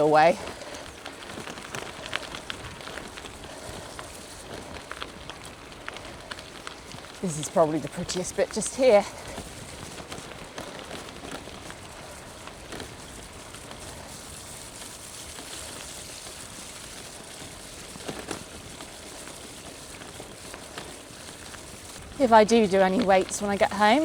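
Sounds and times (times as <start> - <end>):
bicycle tyres on wet gravel: 0.0 - 24.0
light rain hissing: 0.0 - 24.0.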